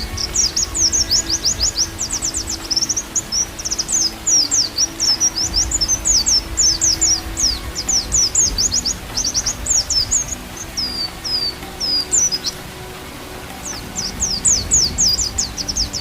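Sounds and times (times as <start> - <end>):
bamboo flute music: 0.0 - 16.0
bird song chatter: 0.0 - 16.0.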